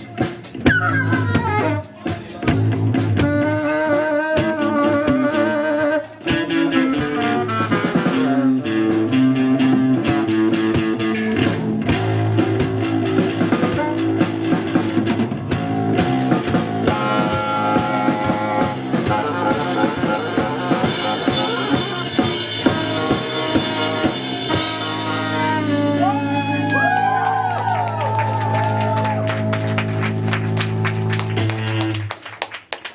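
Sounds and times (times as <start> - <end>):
electric guitar: 0.0 - 32.2
drum kit: 0.0 - 32.9
saxophone: 0.5 - 11.2, 12.6 - 32.1.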